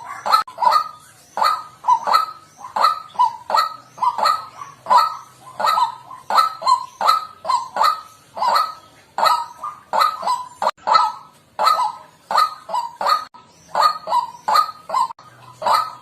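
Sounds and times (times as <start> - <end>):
bird harsh kwak calls: 0.0 - 16.0.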